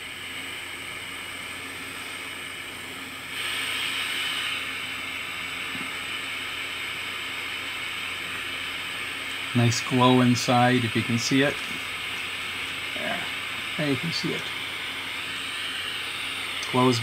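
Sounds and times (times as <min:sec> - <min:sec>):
burning gas hissing whistle: 0:00.0 - 0:17.0.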